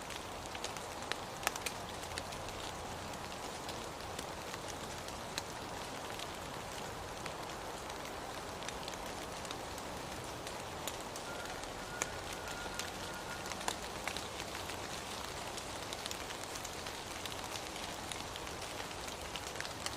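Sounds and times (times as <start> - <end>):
raindrops ticking close by: 0.0 - 19.9
steady rain hiss: 0.0 - 19.9.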